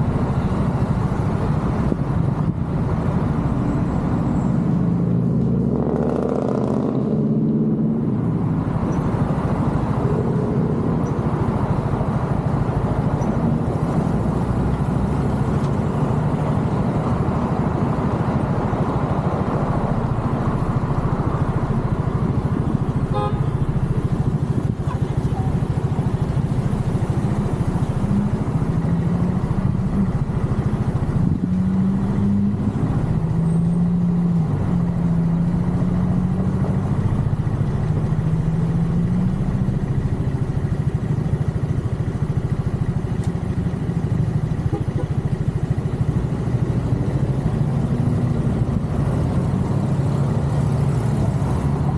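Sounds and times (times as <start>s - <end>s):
road noise rush: 0.0s - 51.9s
scooter engine running: 8.4s - 33.4s, 34.4s - 51.9s.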